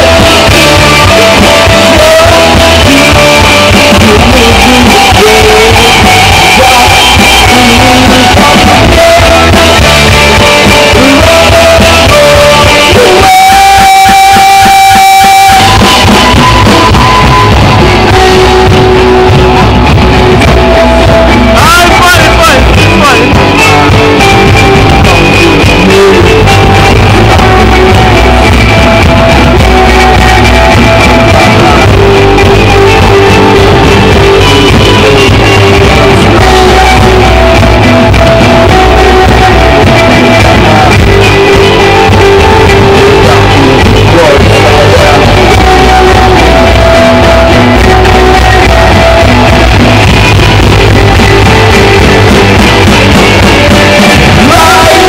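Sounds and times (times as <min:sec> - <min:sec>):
man singing: 0:00.0 - 0:49.9, 0:52.8 - 0:55.0
live rock band playing: 0:00.0 - 0:55.0.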